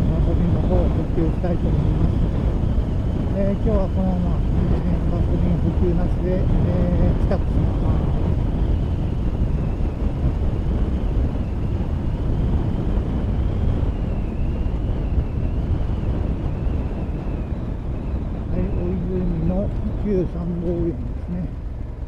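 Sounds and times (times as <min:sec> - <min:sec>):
motorcycle engine: 0:00.0 - 0:22.0
wind noise on microphone: 0:00.0 - 0:22.0.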